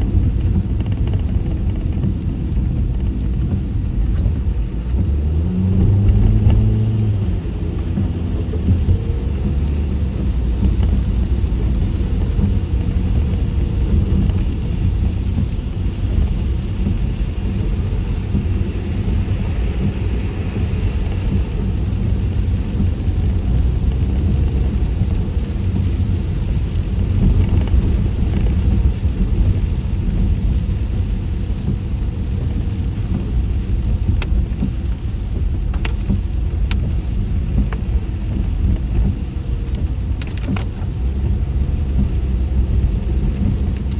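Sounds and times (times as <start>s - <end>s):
hiss of rain and spray: 0.0s - 43.9s
tyre and road rumble: 0.0s - 43.9s.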